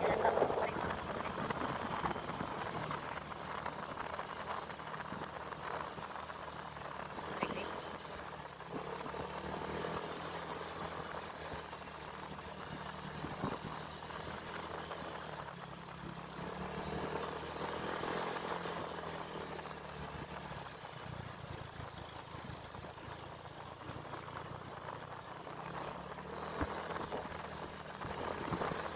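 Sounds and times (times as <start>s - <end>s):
engine running with low hum: 0.0s - 28.9s.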